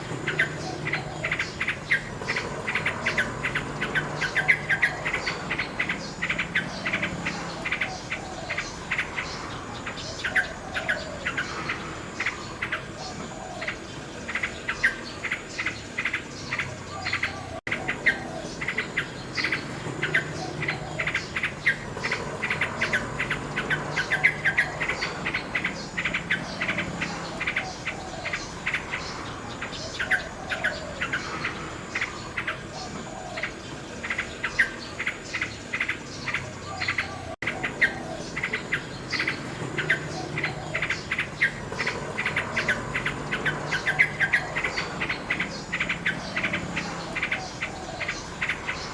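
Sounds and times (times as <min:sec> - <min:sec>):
insects chirring: 0:00.0 - 0:48.9
nightingale singing: 0:00.0 - 0:48.9.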